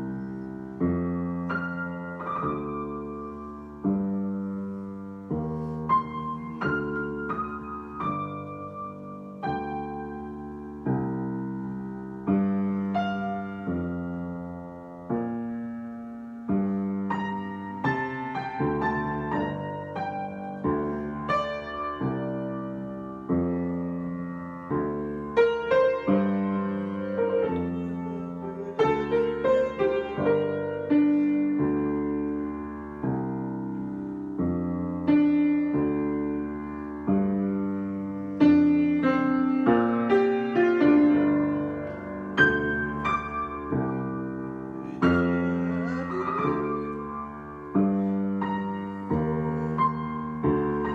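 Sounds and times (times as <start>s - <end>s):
solo piano improvisation: 0.0s - 50.9s.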